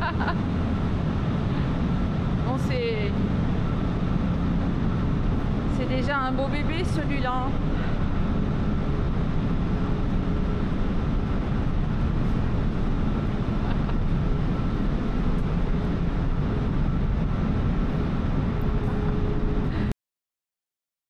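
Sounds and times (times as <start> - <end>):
low machinery rumble: 0.0 - 20.0.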